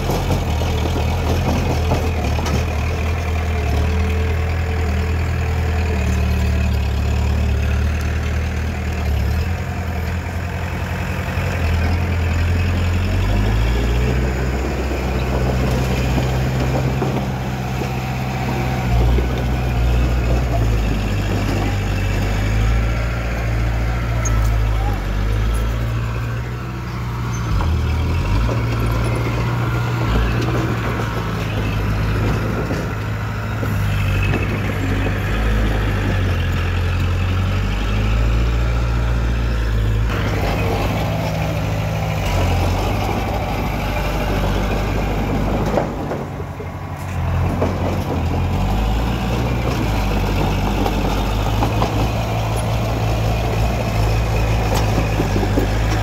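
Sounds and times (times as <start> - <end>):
diesel machinery engine drone: 0.0 - 56.0.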